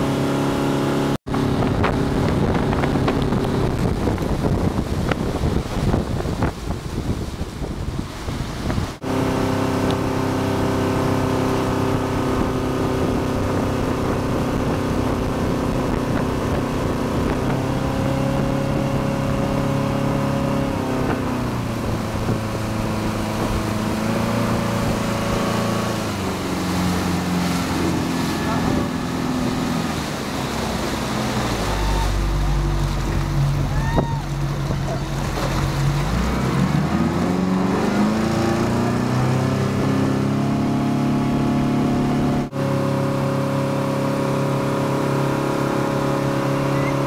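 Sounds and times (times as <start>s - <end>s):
motorboat engine running: 0.0s - 47.0s
rush of boat wake: 0.0s - 47.0s
wind buffeting microphone: 1.3s - 9.2s, 9.8s - 42.6s.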